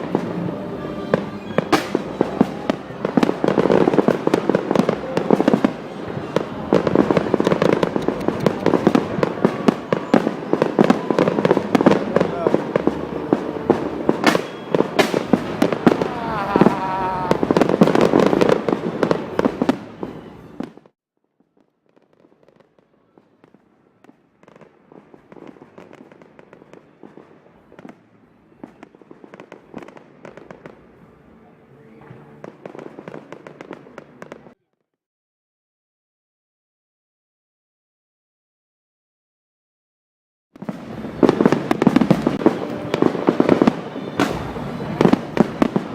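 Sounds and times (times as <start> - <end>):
fireworks crackling pops: 0.0 - 31.2, 31.9 - 34.6, 40.6 - 45.9
fireworks cracks and bangs: 0.0 - 31.4, 32.0 - 34.6, 40.6 - 45.9.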